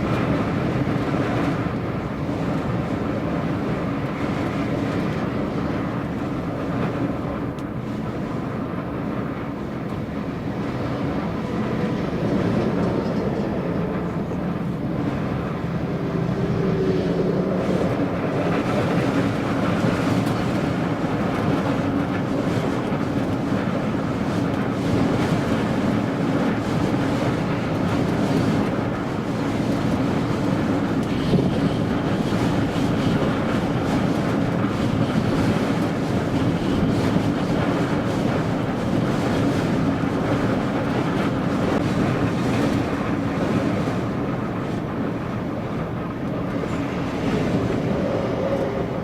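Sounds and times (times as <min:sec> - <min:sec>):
vehicle engine and tyre drone: 0:00.0 - 0:49.0.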